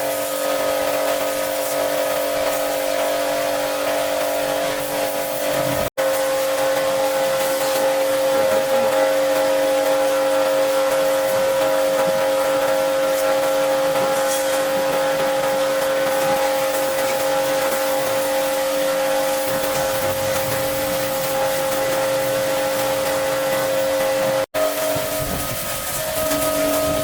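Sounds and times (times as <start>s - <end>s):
cleaning machine motor whining: 0.0s - 27.0s.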